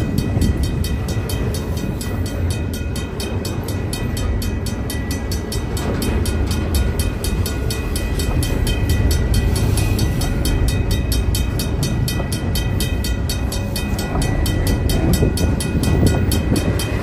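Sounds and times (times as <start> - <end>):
level crossing bell ringing: 0.0 - 17.0
train wheels rumbling on rail: 0.0 - 17.0.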